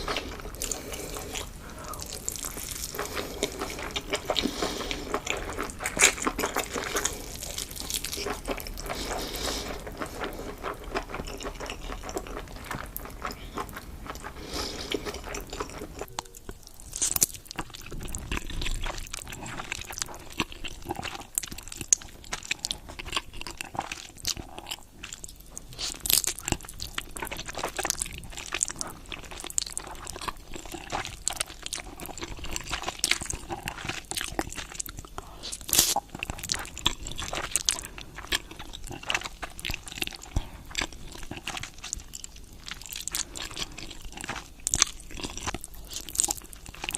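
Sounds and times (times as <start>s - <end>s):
crunchy bites and chewing: 0.0s - 46.9s.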